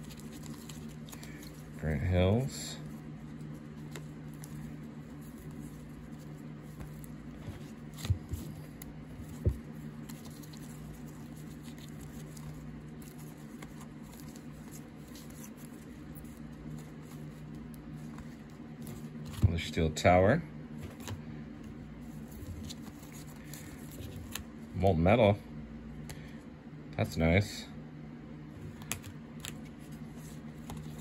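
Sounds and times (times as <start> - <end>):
cards flipping and rustling: 0.0 - 19.8, 20.8 - 24.6, 28.6 - 31.0
steady low hum: 0.0 - 31.0.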